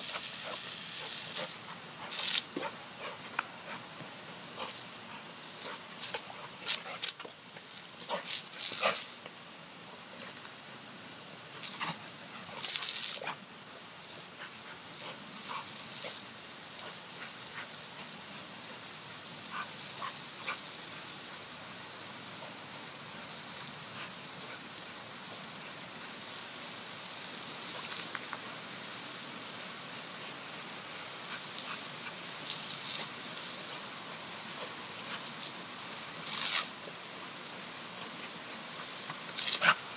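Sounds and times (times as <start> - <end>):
garden hose spraying water: 0.0 - 39.9.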